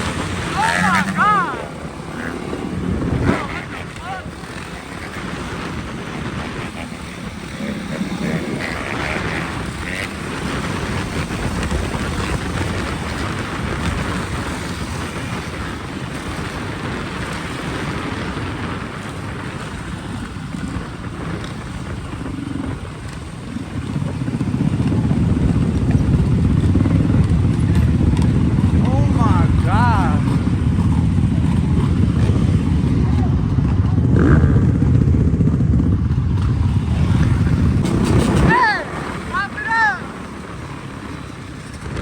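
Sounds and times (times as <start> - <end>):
moving vehicle rumble: 0.0 - 42.0
wind rushing over microphone: 0.0 - 42.0.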